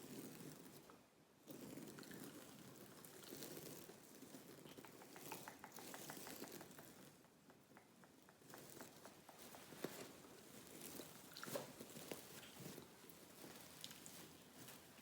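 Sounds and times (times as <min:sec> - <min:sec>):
soft scratching rustling hiss: 0:00.0 - 0:15.0.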